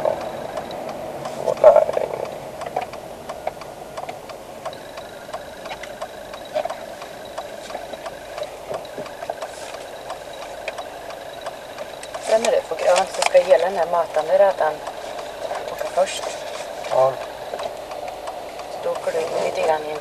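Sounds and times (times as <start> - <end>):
car engine hum: 0.0 - 20.0
turn signal clicking: 0.0 - 20.0.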